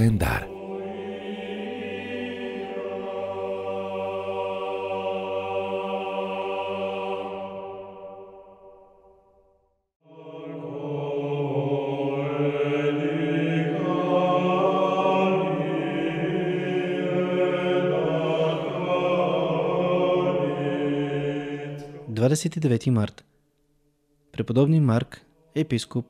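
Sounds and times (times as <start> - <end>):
choir chanting: 0.0 - 9.3, 10.0 - 22.1.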